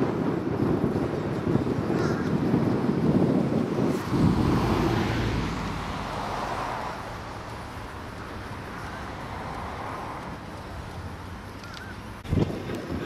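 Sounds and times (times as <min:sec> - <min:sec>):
outdoor rushing noise: 0:00.0 - 0:13.0.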